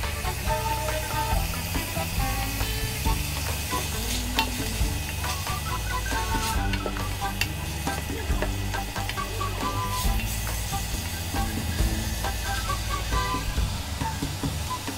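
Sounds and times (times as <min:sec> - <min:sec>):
shrimp sizzling in a frying pan: 0:00.0 - 0:14.9.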